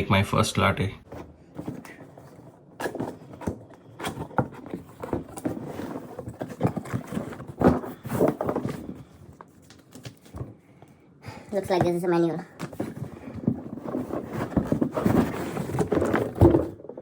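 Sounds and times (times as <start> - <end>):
cardboard packaging rustling: 1.0 - 10.6, 12.6 - 17.0.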